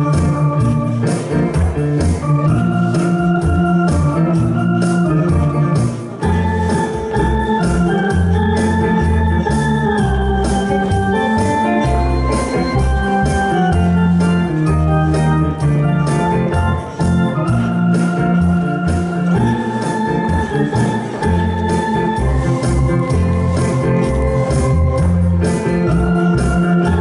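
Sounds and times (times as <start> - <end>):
bass line: 0.0 - 27.0
organ-like keyboard melody: 0.0 - 27.0
steady drum beat: 0.0 - 27.0.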